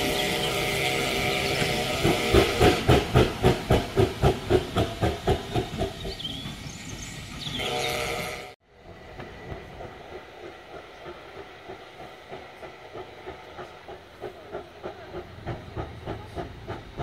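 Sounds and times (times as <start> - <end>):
steam exhaust chuffs: 0.0 - 17.0
steam hissing: 0.0 - 17.0.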